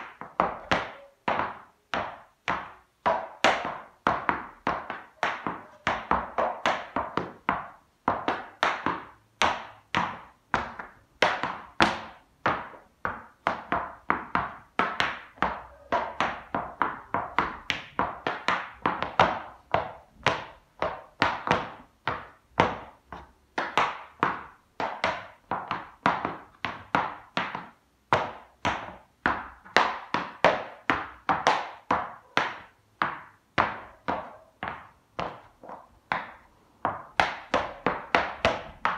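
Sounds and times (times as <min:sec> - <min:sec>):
tap shoes clicking on hard floor: 0:00.0 - 0:38.9.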